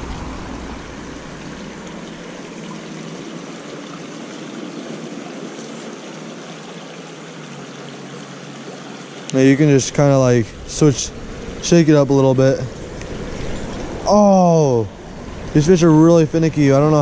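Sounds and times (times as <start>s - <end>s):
creek water running: 0.0s - 17.0s.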